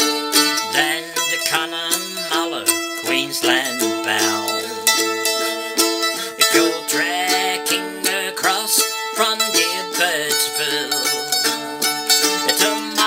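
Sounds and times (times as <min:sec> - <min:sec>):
mandolin strumming chords: 0:00.0 - 0:13.0.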